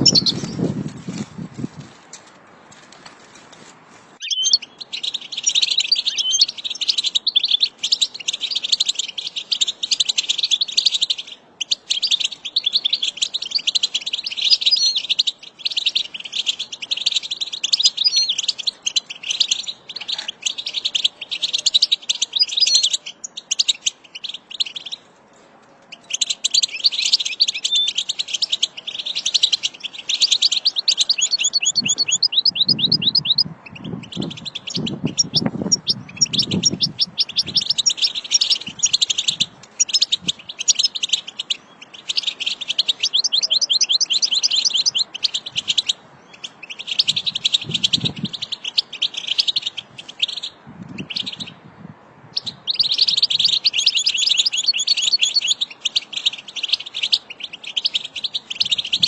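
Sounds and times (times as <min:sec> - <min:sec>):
goldfinch twittering song: 0:00.0 - 0:00.7, 0:04.2 - 0:25.0, 0:25.9 - 0:51.6, 0:52.3 - 0:59.0.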